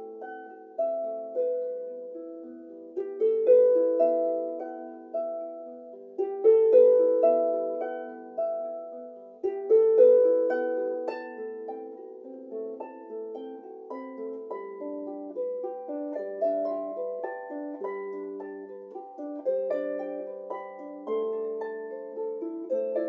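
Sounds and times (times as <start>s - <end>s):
plucked string instrument: 0.0s - 23.0s.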